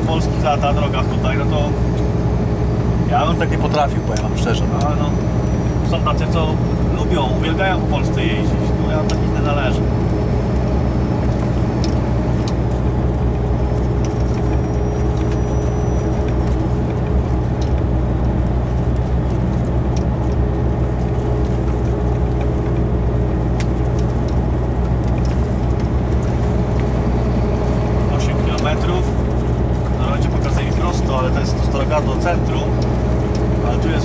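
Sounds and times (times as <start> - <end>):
low engine drone: 0.0 - 34.0
road and tyre noise: 0.0 - 34.0.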